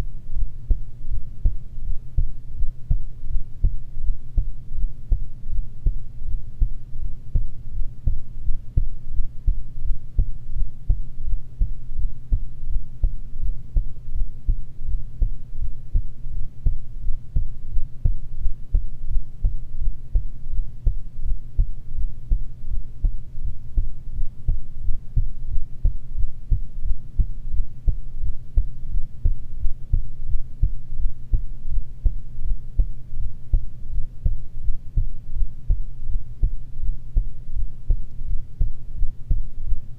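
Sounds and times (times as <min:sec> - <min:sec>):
heartbeat: 0:00.0 - 0:39.9
low hum: 0:00.0 - 0:39.9.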